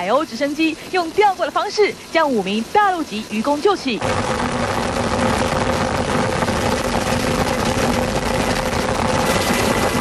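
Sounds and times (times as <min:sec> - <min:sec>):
helicopter engines and rotor: 0:00.6 - 0:10.0.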